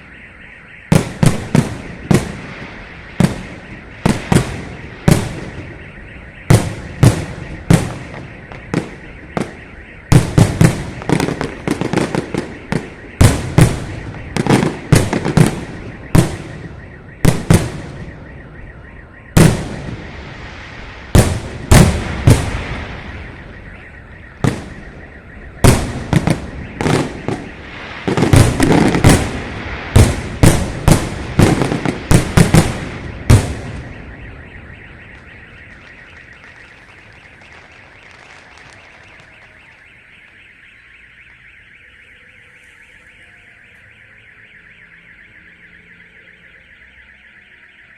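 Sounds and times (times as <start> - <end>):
car alarm wailing: 0.0 - 47.9
firework bangs: 0.9 - 18.5, 19.3 - 40.3.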